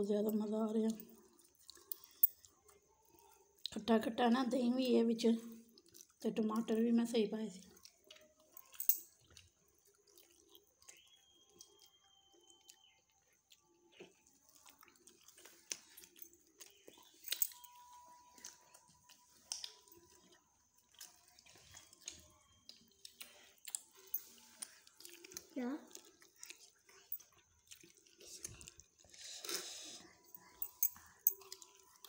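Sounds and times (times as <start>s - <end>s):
chewing and wet smacks: 0.8s - 3.8s, 5.5s - 32.0s.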